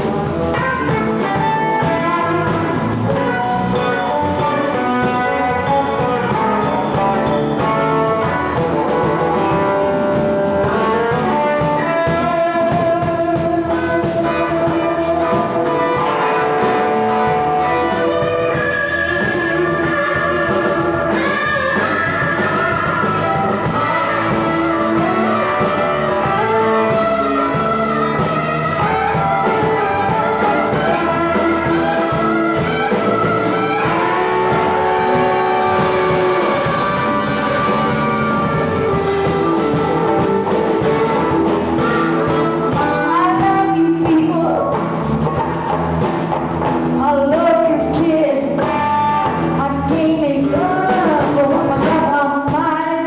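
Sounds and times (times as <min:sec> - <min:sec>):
drum kit beat: 0:00.0 - 0:53.0
electric bass: 0:00.0 - 0:53.0
electric guitar: 0:00.0 - 0:53.0
pedal steel guitar: 0:00.0 - 0:53.0.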